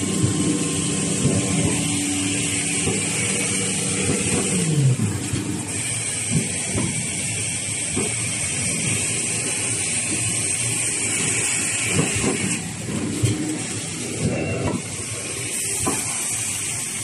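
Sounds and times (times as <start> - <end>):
machine hiss: 0.0 - 17.0
mechanical clatter: 0.0 - 17.0.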